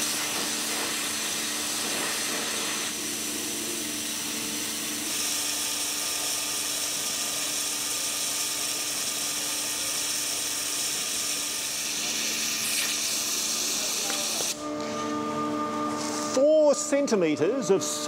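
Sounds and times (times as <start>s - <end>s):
waterjet cutting metal hissing: 0.0s - 14.6s.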